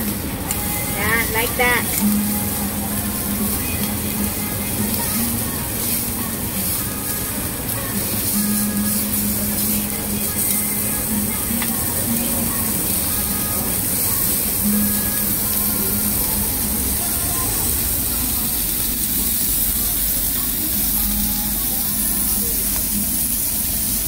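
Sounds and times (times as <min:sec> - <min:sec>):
beef sizzling on hot stone: 0:00.0 - 0:24.0.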